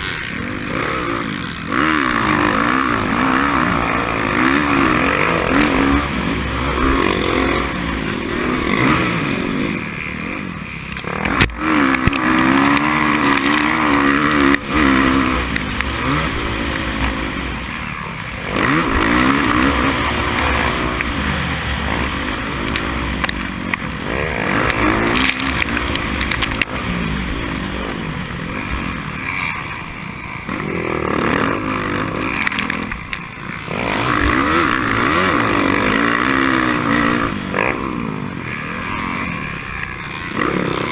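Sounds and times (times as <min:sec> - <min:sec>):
dirt bike engine racing: 0:00.0 - 0:40.9.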